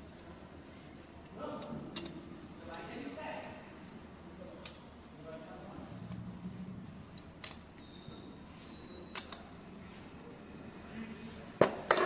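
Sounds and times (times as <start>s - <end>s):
low workshop background noise: 0.0s - 12.0s.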